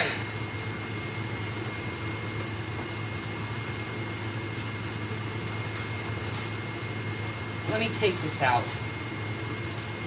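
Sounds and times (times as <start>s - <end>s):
range hood fan humming: 0.0s - 10.0s.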